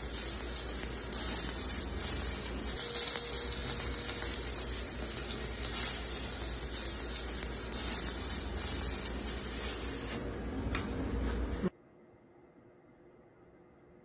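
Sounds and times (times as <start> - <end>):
welding arc crackling and hissing: 0.0 - 11.7.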